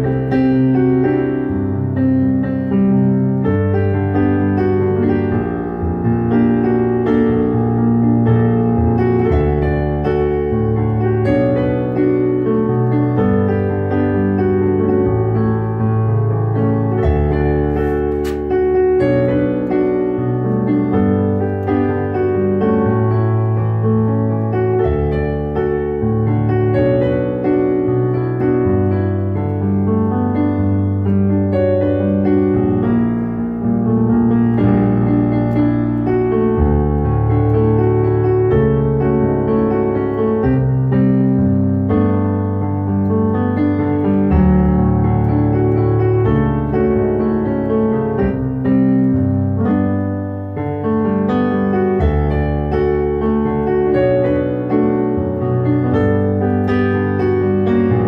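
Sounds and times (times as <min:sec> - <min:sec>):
digital piano playing: 0:00.0 - 0:58.0.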